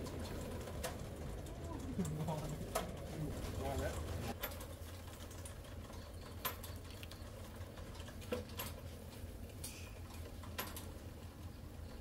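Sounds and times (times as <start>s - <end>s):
coals and skewers clicking: 0.0s - 12.0s
electric fans humming: 0.0s - 12.0s.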